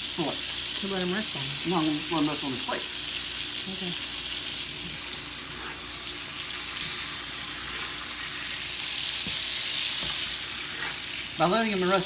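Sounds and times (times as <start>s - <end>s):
steaks sizzling in a skillet: 0.0s - 12.0s.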